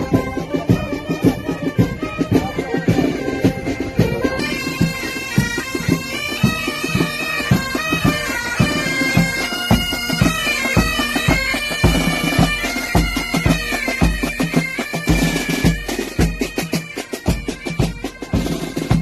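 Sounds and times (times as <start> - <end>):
bagpipes playing melody: 0.0 - 19.0.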